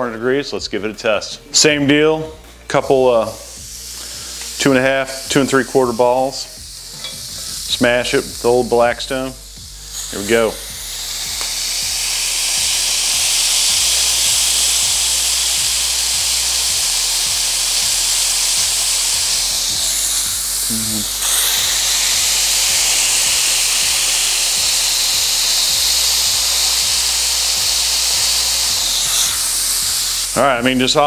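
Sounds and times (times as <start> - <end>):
meat patties sizzling on griddle: 3.2 - 31.0.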